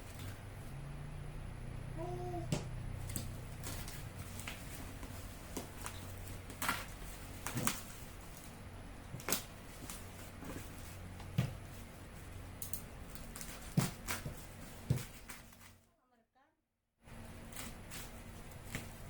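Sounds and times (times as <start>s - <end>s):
low steady hum: 0.0s - 16.2s.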